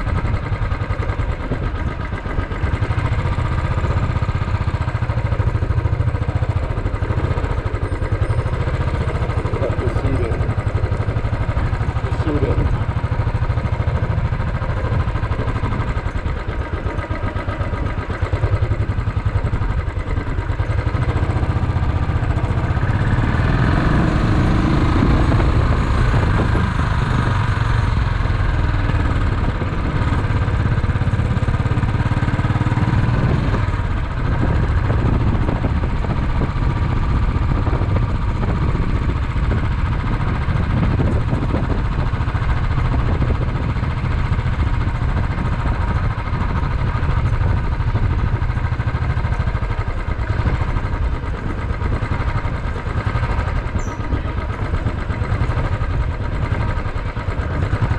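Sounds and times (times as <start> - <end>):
motorcycle engine rumbling: 0.0 - 57.9.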